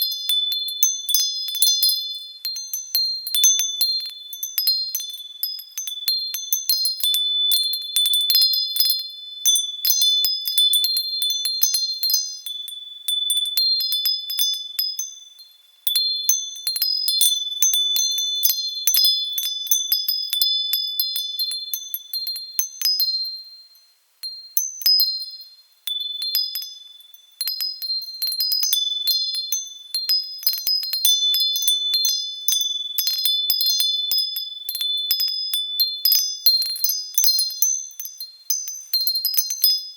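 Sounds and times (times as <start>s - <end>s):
wind chimes jingling: 0.0s - 39.9s.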